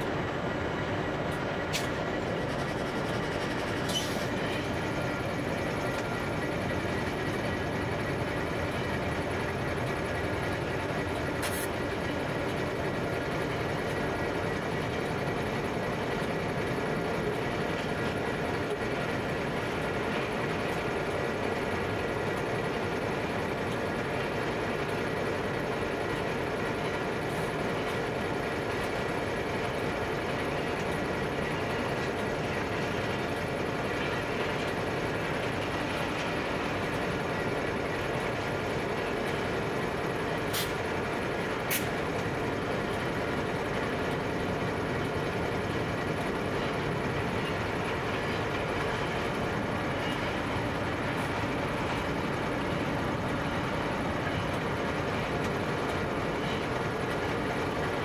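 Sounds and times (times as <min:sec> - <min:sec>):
freight train rolling past: 0:00.0 - 0:58.0
idling diesel locomotive: 0:00.0 - 0:58.0.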